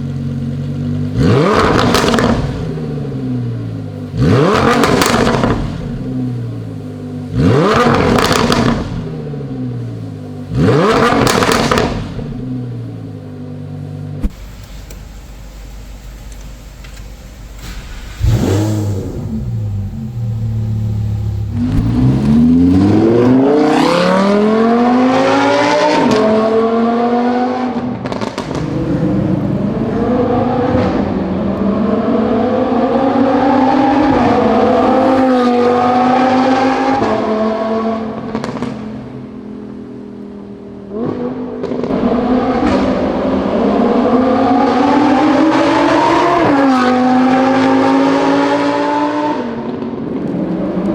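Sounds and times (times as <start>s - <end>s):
sports car engine accelerating: 0.0s - 14.3s, 15.1s - 50.9s.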